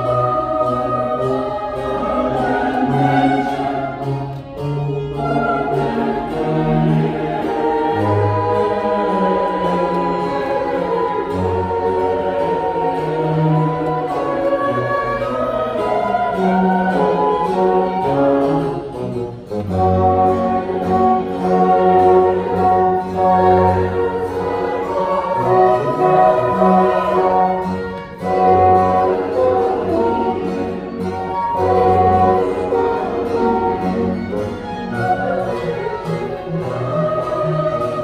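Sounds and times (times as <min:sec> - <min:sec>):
bassoon: 0:00.0 - 0:38.0
flute: 0:00.0 - 0:38.0
mixed choir singing: 0:00.0 - 0:38.0
strings: 0:00.0 - 0:38.0.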